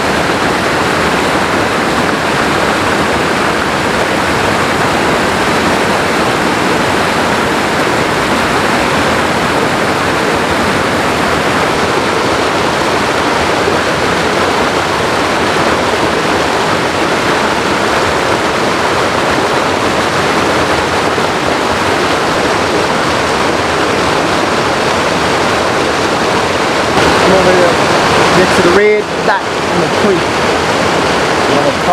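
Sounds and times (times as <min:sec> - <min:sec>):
creek rushing over cascade: 0:00.0 - 0:31.9.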